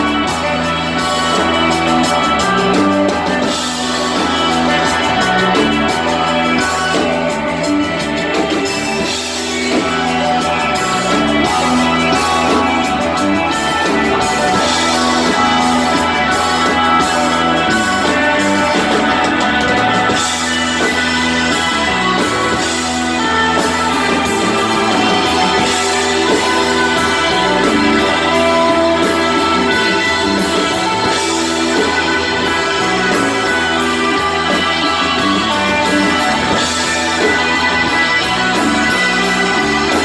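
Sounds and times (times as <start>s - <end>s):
bass guitar: 0.0s - 40.0s
drum kit with cymbals: 0.0s - 40.0s
electric guitar: 0.0s - 40.0s.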